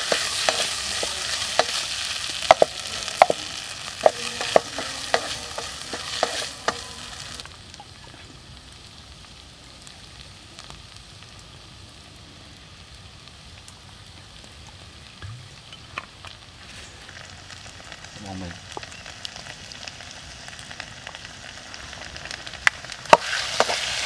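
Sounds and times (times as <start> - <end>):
food sizzling in pot: 0.0 - 24.0.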